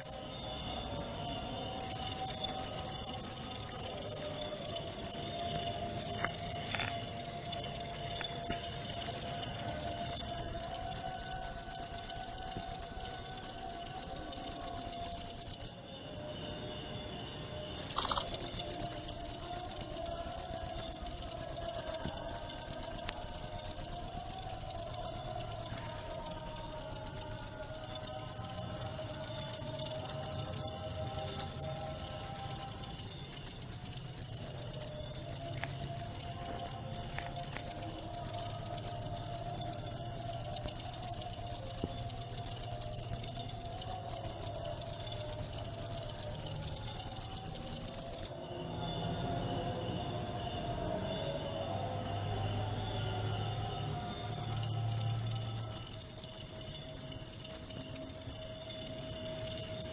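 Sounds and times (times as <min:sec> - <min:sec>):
cricket trilling: 0:00.0 - 0:59.9
faint lower insect calls: 0:00.0 - 0:59.9.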